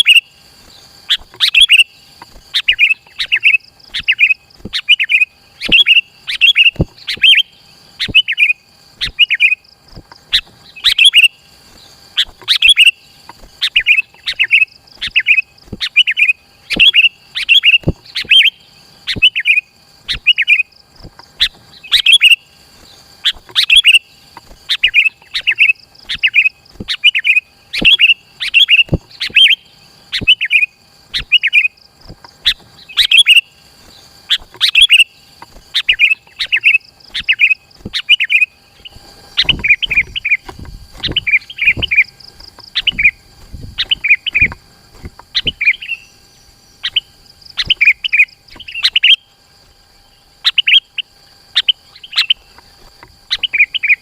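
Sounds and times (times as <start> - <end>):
bulbul chirping: 0.0 - 54.0
faint high whine: 0.0 - 54.0.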